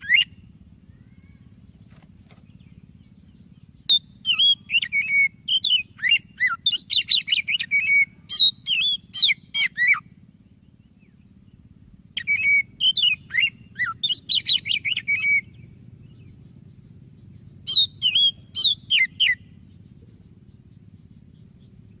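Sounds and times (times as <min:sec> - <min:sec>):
songbird whistling: 0:00.0 - 0:10.1, 0:12.1 - 0:22.0
faint low hum: 0:00.0 - 0:22.0.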